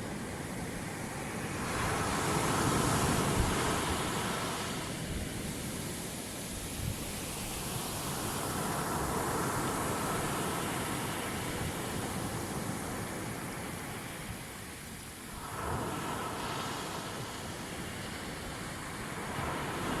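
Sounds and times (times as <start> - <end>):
ocean surf washing in: 0.0 - 20.0.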